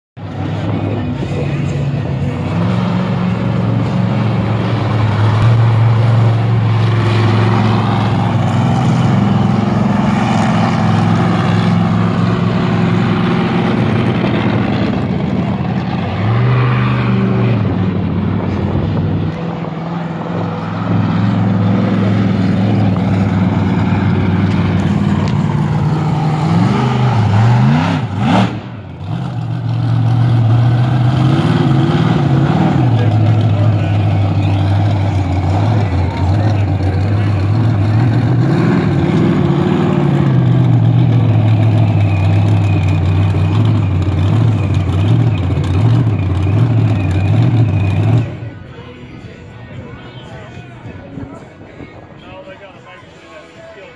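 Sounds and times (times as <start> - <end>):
monster truck engine revving: 0.2 - 48.6.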